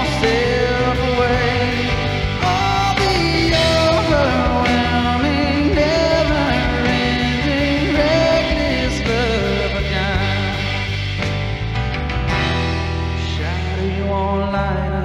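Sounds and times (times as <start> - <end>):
rock worship music with singing: 0.0 - 15.0.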